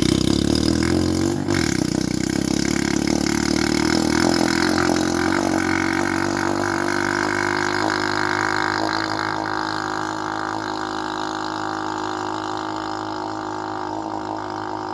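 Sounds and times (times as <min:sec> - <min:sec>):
quad bike engine idling: 0:00.0 - 0:14.9.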